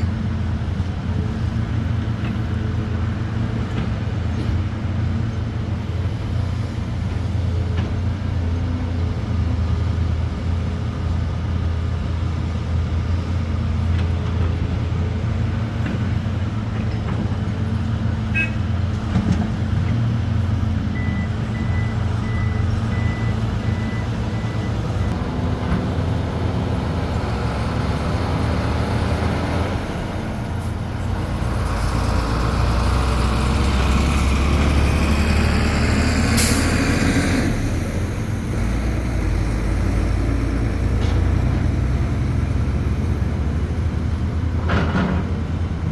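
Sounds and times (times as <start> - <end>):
heavy diesel engines droning: 0.0 - 45.9.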